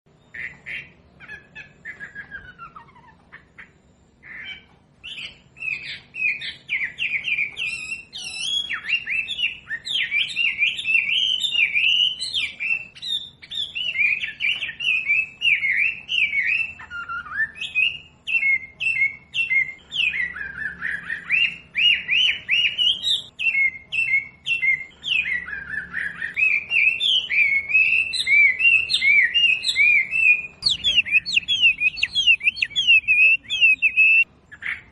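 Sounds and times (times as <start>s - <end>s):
bird chirps and warbles: 0.1s - 34.9s.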